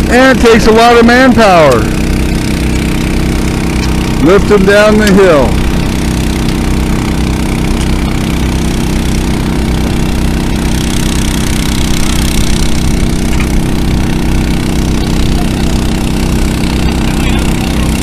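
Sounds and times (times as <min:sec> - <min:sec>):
petrol water pumps running: 0:00.0 - 0:18.0.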